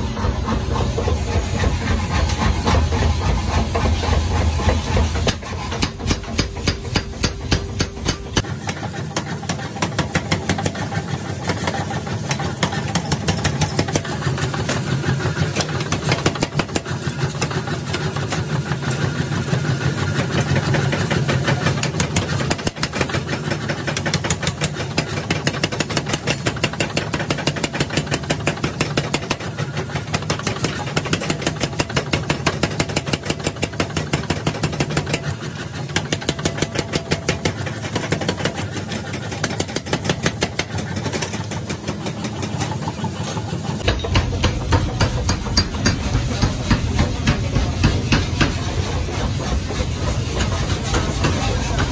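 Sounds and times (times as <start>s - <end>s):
power hammer pounding metal: 0.0s - 51.9s.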